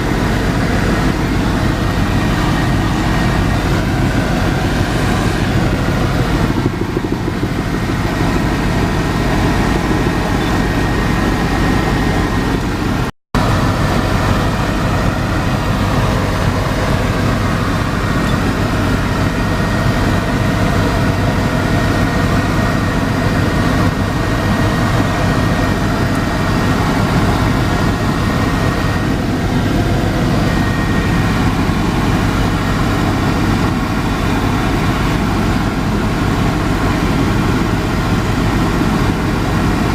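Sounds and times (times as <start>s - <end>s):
faint high whine: 0.0s - 39.9s
helicopter engine and rotor: 0.0s - 39.9s.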